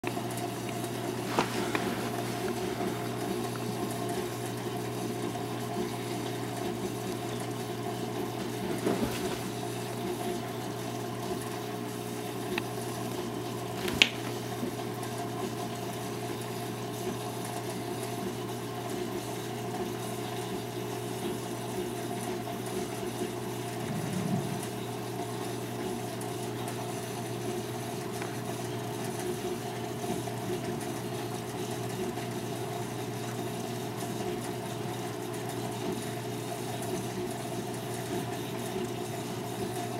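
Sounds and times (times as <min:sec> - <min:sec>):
aquarium pump humming: 0:00.0 - 0:39.9.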